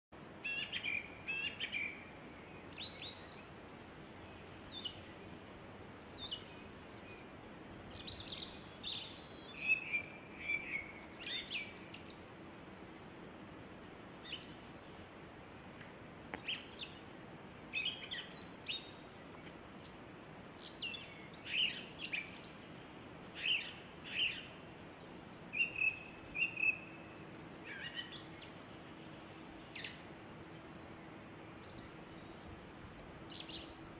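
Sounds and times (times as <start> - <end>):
songbirds chirping and trilling: 0.2 - 33.9.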